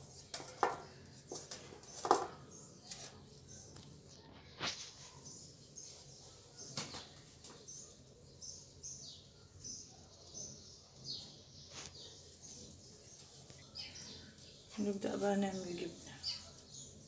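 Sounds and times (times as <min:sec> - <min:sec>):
small bird chirping: 0:00.8 - 0:17.0.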